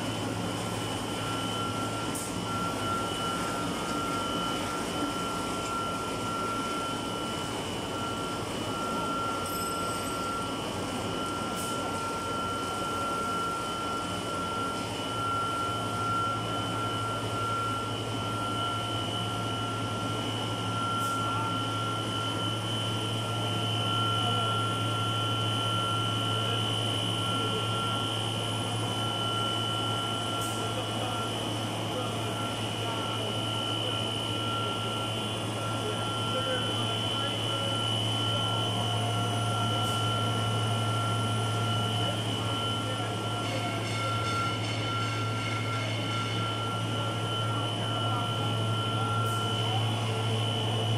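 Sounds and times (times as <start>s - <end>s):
high-pitched machine whines: 0.0s - 50.9s
machinery low hum: 0.0s - 50.9s.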